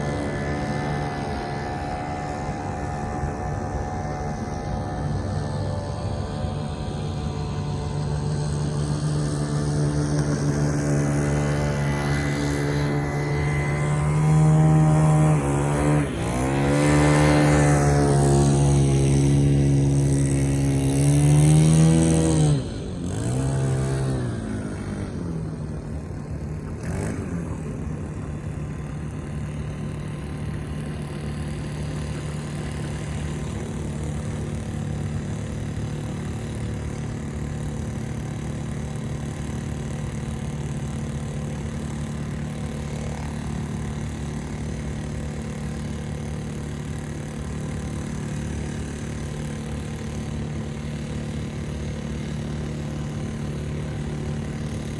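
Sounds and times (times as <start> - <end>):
small boat engine revving: 0.0 - 54.9.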